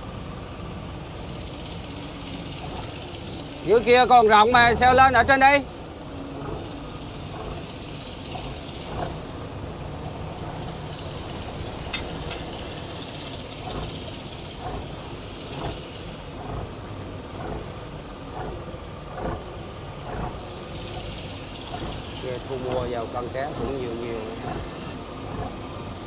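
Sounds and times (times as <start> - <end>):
boat engine rumbling: 0.0 - 26.0.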